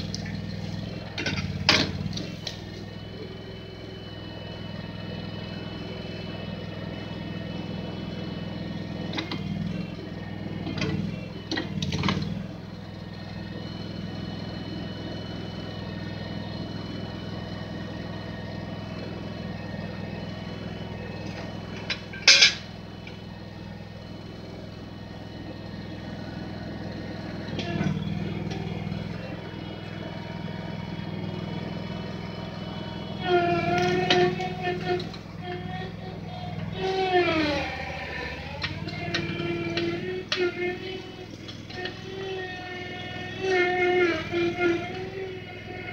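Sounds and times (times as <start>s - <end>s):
backhoe engine running: 0.0s - 45.9s.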